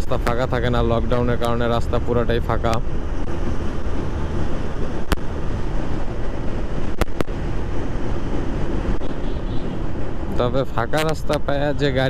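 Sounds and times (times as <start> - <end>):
motorcycle engine and road noise: 0.0 - 12.0
wind rushing over microphone: 0.0 - 12.0.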